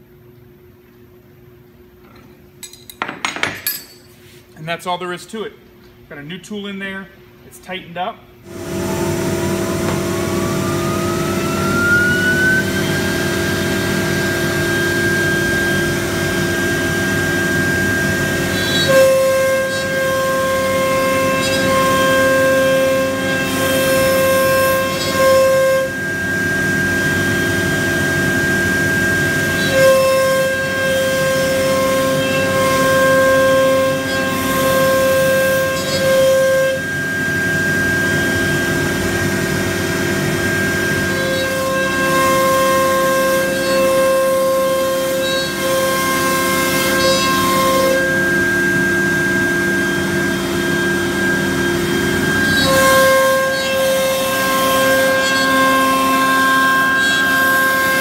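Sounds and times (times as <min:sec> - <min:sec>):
router spindle high-pitched whine: 0:08.5 - 0:58.0.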